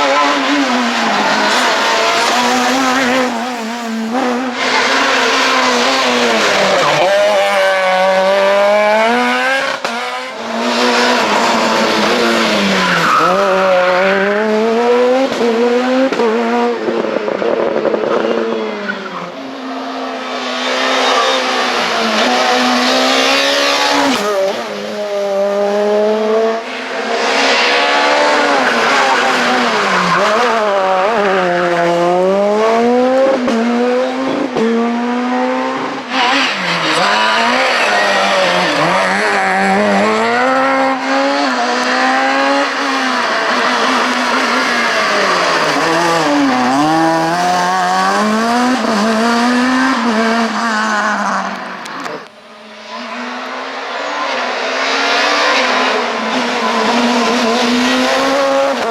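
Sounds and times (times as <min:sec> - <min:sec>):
rally car engines revving: 0:00.0 - 0:58.9.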